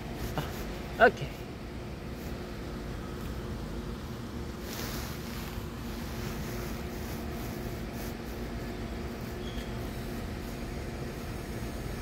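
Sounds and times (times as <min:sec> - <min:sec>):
standing train car hum: 0:00.0 - 0:12.0.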